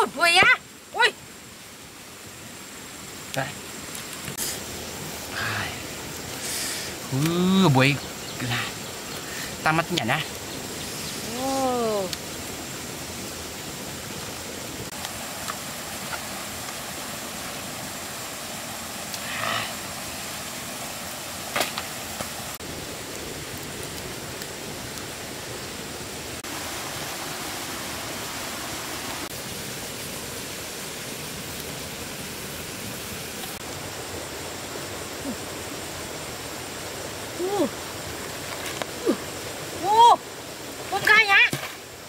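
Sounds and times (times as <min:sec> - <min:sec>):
campfire popping: 0:01.5 - 0:28.0, 0:29.3 - 0:42.0
river water rushing: 0:01.5 - 0:42.0.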